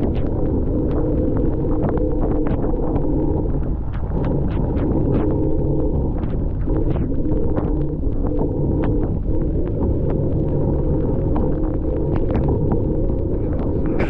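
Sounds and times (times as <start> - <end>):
low drone: 0.0 - 14.0
wind rushing over microphone: 0.0 - 14.0.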